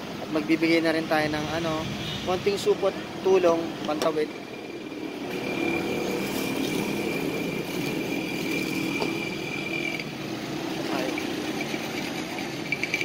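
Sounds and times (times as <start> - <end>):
street traffic engines: 0.0 - 13.0
steady high-pitched tone: 0.4 - 13.0.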